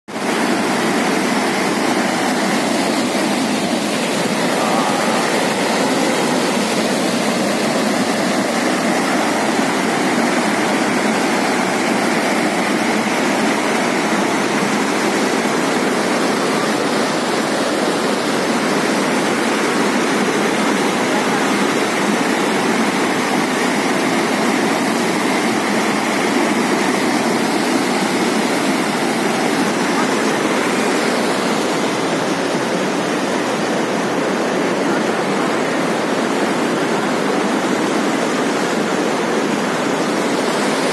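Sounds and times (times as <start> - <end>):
water rushing over rocks: 0.1 - 40.9.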